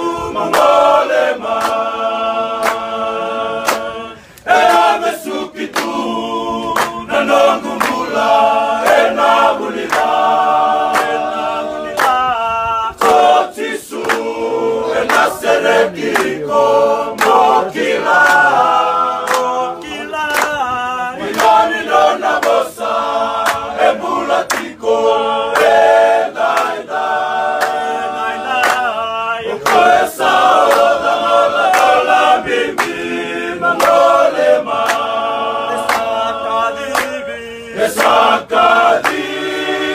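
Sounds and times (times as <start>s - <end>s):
choir singing unaccompanied: 0.0s - 39.9s.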